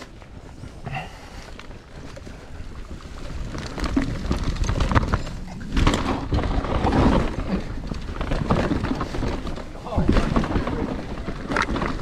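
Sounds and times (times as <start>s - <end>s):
bike clattering over bumps: 0.0s - 12.0s
bike tyres rolling over dirt: 0.0s - 12.0s.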